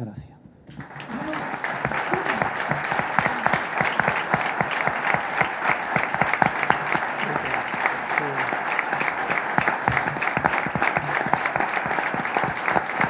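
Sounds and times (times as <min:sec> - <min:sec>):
audience applause: 0:00.7 - 0:13.0.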